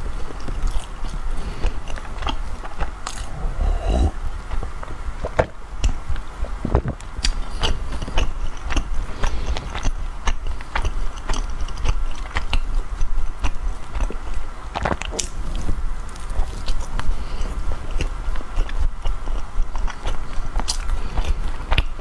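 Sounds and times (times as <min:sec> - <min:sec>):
chewing soft bread: 0:00.0 - 0:22.0.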